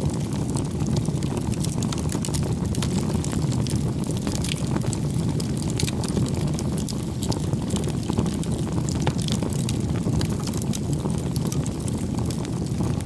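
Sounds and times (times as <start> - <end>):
rush of flames: 0.0 - 13.0
wood crackling and popping: 0.0 - 13.0.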